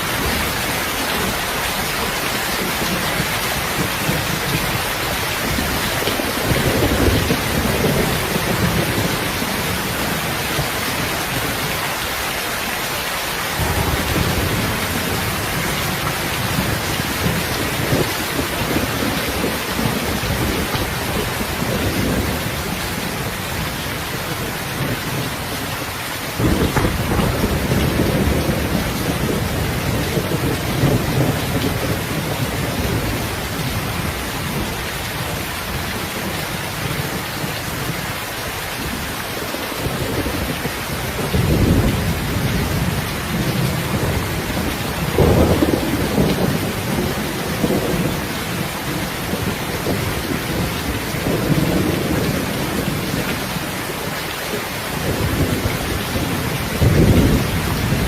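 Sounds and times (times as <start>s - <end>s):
heavy rain hiss: 0.0s - 58.0s
rolling thunder: 2.0s - 11.7s, 13.5s - 25.6s, 26.3s - 38.0s, 39.8s - 54.1s, 54.9s - 58.0s.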